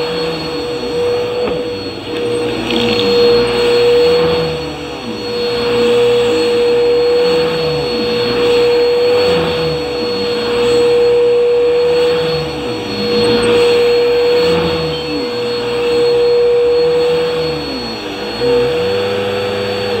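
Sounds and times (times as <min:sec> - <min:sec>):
vacuum cleaner bump: 0:00.0 - 0:20.0
vacuum cleaner running: 0:00.0 - 0:20.0.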